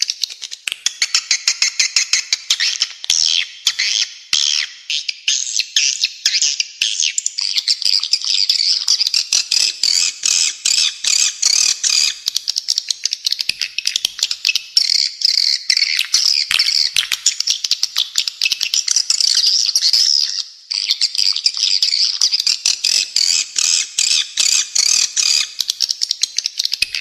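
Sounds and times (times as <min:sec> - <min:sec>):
birds chirping and chattering: 0:00.0 - 0:27.0.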